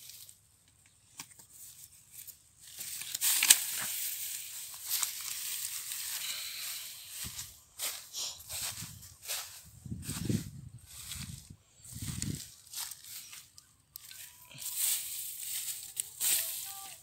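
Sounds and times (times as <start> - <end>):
straw rustling underfoot: 0.0 - 17.0.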